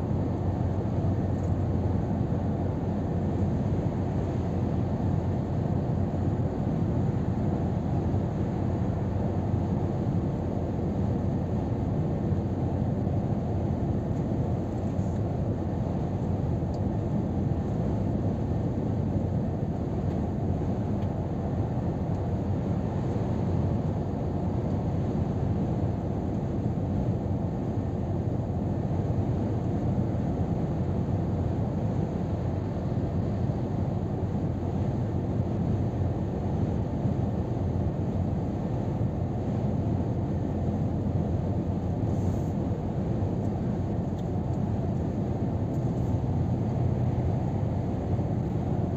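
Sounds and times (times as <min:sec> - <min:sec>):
tyre and road roar: 0:00.0 - 0:48.9
wind: 0:00.0 - 0:48.9
truck engine hum: 0:00.1 - 0:48.9.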